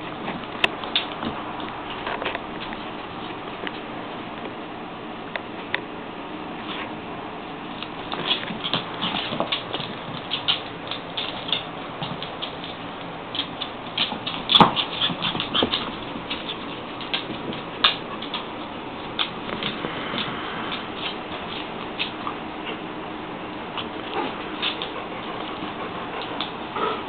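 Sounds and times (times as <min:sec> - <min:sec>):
animals scuffling: 0:00.0 - 0:04.6, 0:06.6 - 0:27.0.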